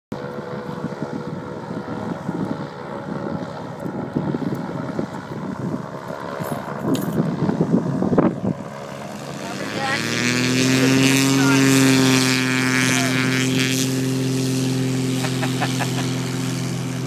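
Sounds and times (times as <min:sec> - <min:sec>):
propeller engines droning: 0:00.1 - 0:17.0
wind buffeting microphone: 0:00.2 - 0:17.0.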